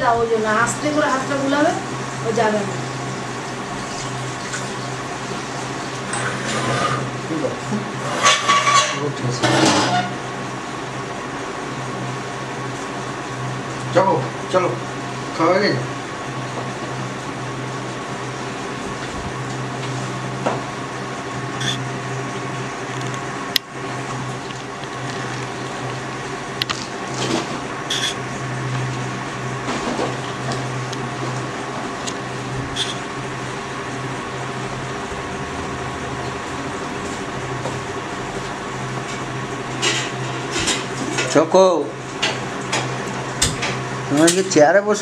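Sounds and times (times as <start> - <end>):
appliance humming: 0.0 - 45.0.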